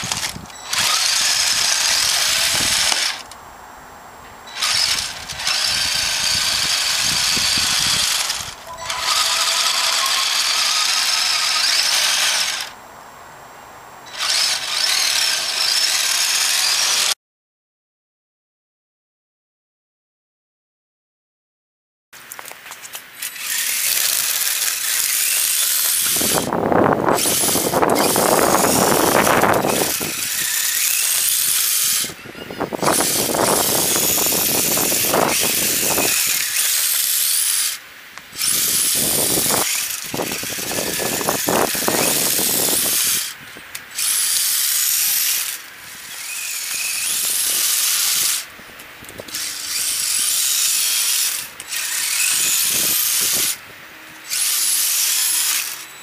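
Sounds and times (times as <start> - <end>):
toy truck motor and gears whining: 0.0 - 3.4, 4.5 - 12.8, 14.0 - 17.2, 22.8 - 56.0.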